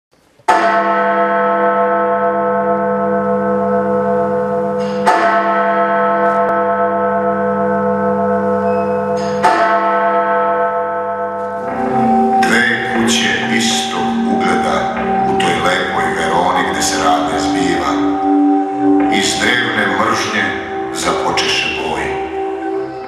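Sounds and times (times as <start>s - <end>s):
large bell tolling: 0.5s - 23.0s.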